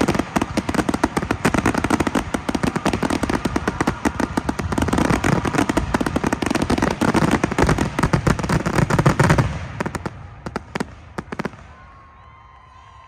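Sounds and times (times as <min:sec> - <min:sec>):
fireworks bangs and crackles: 0:00.0 - 0:12.1.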